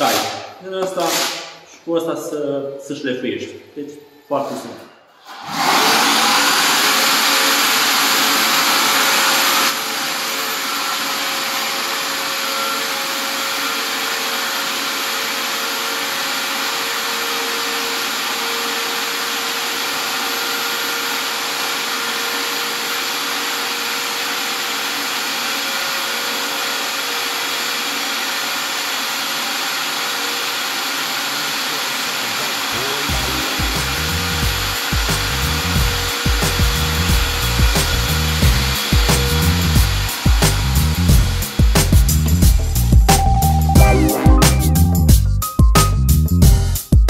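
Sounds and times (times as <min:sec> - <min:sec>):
shop vacuum running: 0:05.2 - 0:45.0.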